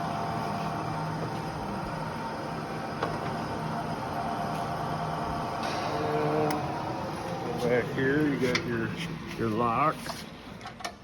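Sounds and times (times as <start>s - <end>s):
drill press humming: 0.0s - 9.4s.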